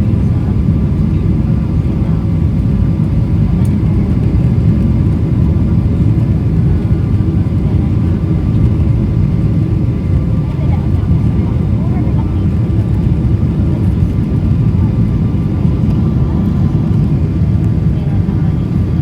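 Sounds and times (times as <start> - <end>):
engine rumble and rushing air: 0.0 - 19.0.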